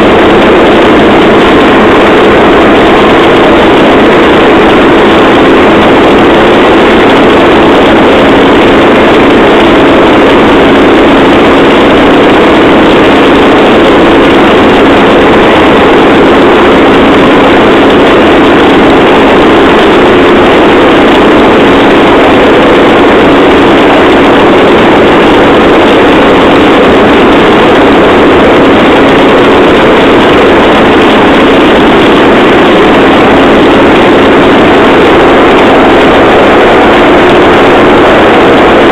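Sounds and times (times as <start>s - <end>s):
rail trolley engine: 0.0s - 38.9s.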